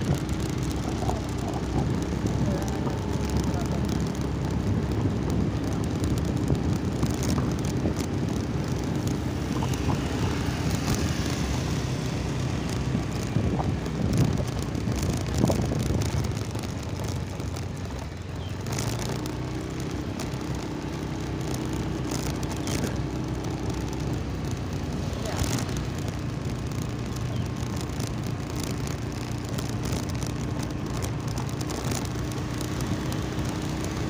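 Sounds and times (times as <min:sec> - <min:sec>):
motorcycle engine running: 0:00.0 - 0:34.0
road and wind noise: 0:00.0 - 0:34.0.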